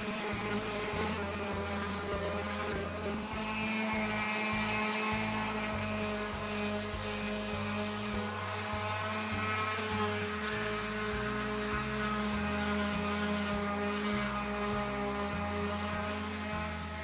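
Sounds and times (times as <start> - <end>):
orbital sander on wood: 0.0 - 17.0.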